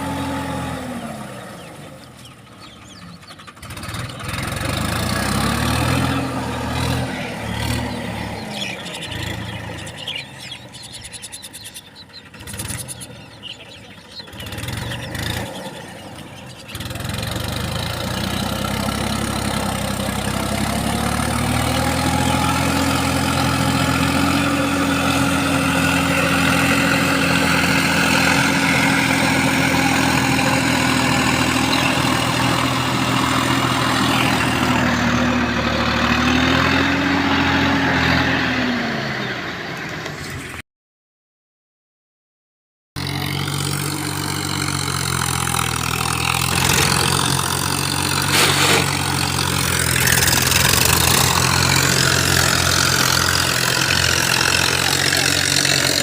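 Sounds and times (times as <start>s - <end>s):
tractor diesel engine running: 0.0s - 40.6s, 43.0s - 56.0s.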